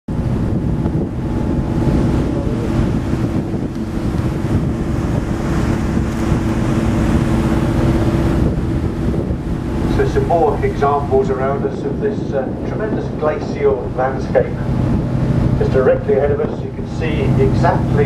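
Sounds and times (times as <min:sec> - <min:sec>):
boat engine droning: 0:00.1 - 0:18.0
water rushing: 0:00.1 - 0:18.0
wind buffeting microphone: 0:00.1 - 0:18.0.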